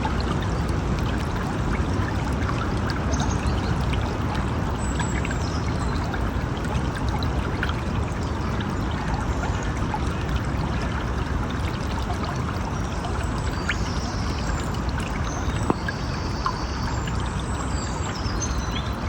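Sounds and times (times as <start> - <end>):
river water flowing: 0.0 - 19.0
water splashing and trickling: 0.0 - 19.0.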